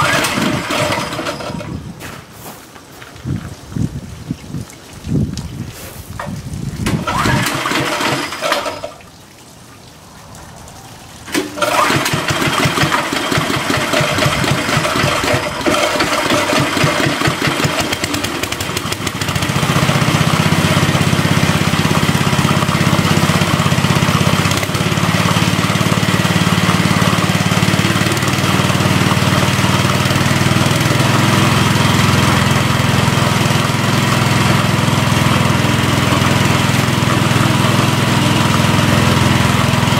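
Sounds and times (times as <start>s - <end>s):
small gasoline engine running: 0.0s - 1.8s, 6.8s - 9.0s, 11.3s - 39.9s.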